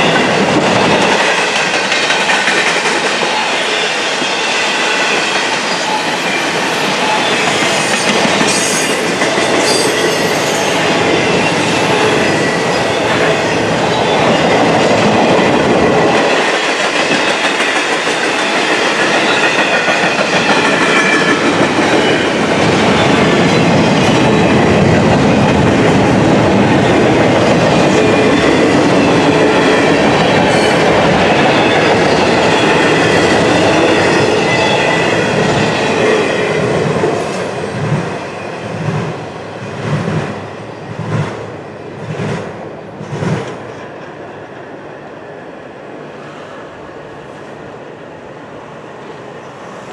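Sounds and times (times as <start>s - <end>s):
train wheels rolling on rail: 0.0s - 49.9s.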